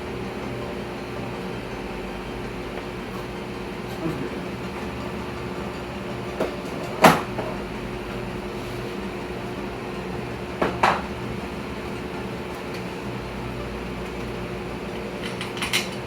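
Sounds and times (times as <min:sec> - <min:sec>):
steady fan-like hum: 0:00.0 - 0:16.0.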